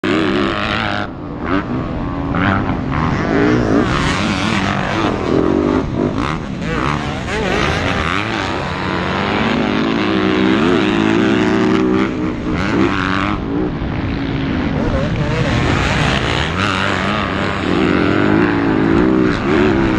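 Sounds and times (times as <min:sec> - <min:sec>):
motocross bikes revving: 0:00.0 - 0:19.9.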